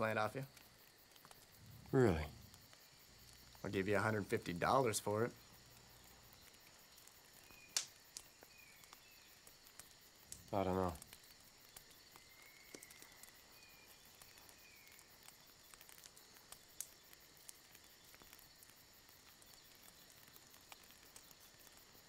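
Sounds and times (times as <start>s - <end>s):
faint ticks: 0.0s - 22.0s
steady hiss: 0.0s - 22.0s
faint chirp: 1.4s - 22.0s.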